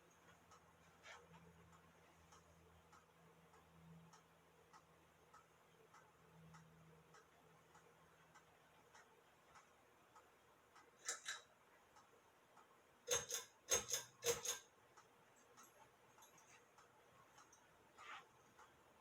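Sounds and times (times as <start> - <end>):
faint ticking: 0.0 - 19.0.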